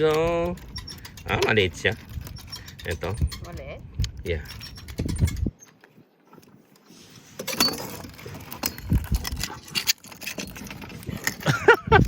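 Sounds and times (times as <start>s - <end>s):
gear clinking and rattling: 0.0s - 5.7s, 7.4s - 12.0s.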